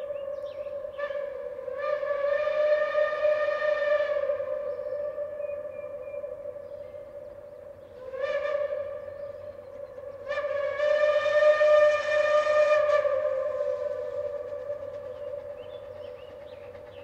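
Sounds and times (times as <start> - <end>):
steam whistle blowing: 0.0 - 16.8.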